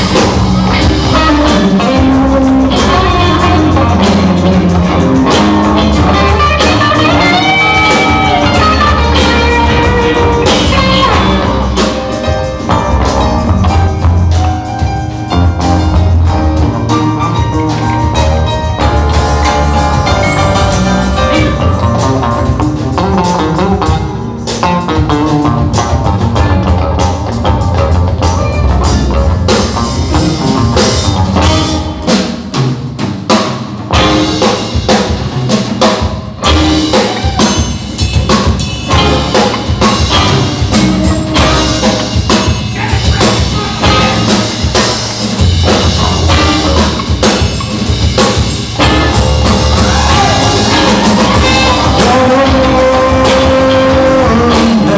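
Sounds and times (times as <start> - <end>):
drum kit hits: 0.0 - 54.9
live rock band with horns: 0.0 - 54.9.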